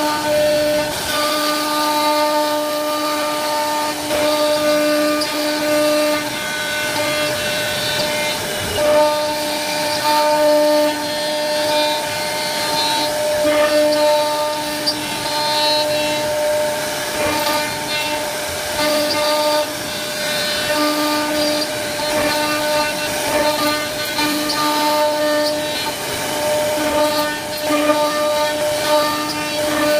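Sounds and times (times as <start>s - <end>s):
router spindle whining: 0.0s - 29.9s.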